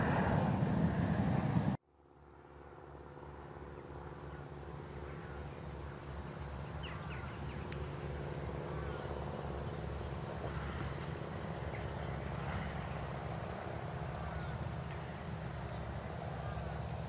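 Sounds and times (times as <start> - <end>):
distant jet engine drone: 0.0 - 17.0.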